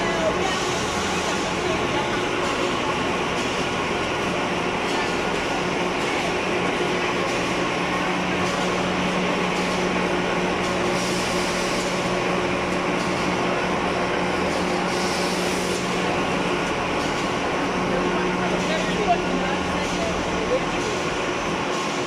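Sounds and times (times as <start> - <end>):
production line machinery din: 0.0 - 22.0.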